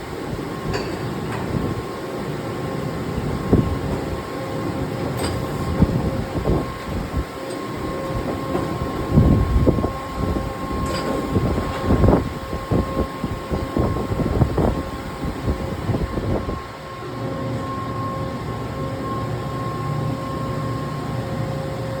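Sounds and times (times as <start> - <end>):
machining center whine and rumble: 0.0 - 22.0.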